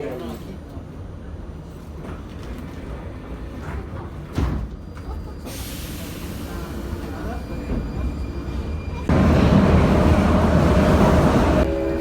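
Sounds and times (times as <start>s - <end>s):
train rumbling on rails: 0.4s - 12.0s.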